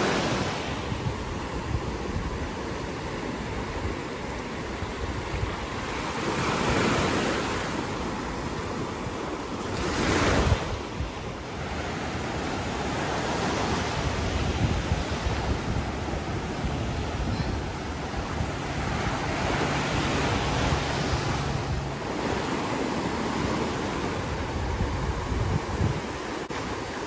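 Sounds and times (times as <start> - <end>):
surf washing over sand: 0.0 - 27.0.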